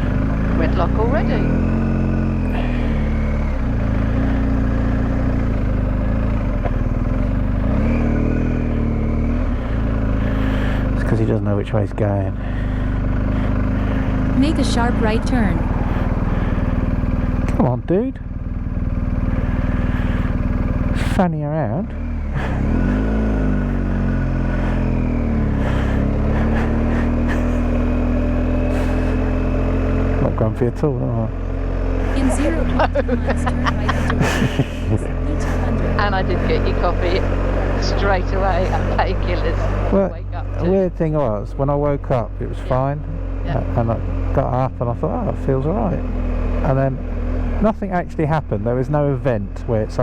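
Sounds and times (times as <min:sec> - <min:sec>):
motorcycle engine at low revs: 0:00.0 - 0:50.0.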